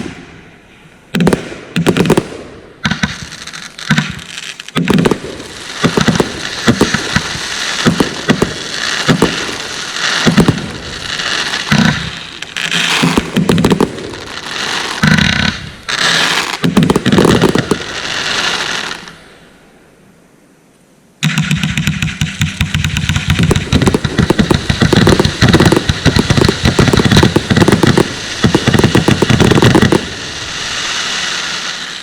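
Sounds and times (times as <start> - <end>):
fireworks crackling and banging: 0.0 - 0.5, 1.1 - 19.2, 21.2 - 32.0.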